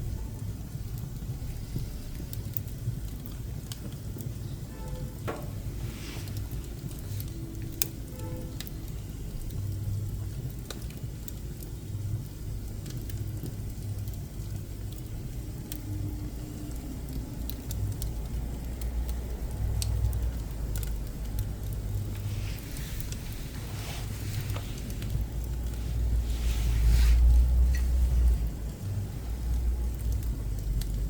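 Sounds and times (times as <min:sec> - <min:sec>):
firewood crackling and popping: 0:00.0 - 0:31.0
low fire rumble: 0:00.0 - 0:31.0.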